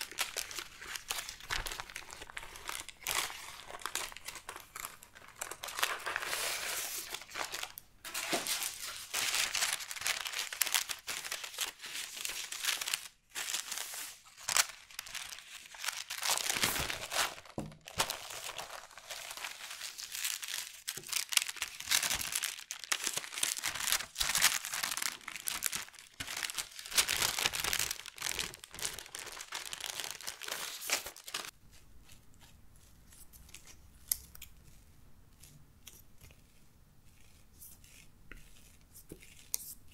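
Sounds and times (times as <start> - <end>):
parchment paper crinkling: 0.0 - 39.9.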